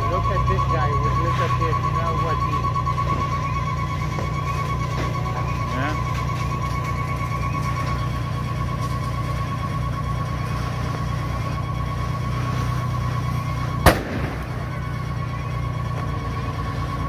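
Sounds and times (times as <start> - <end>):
fire engine pump drone: 0.0 - 17.0
steady high tone: 0.0 - 17.0.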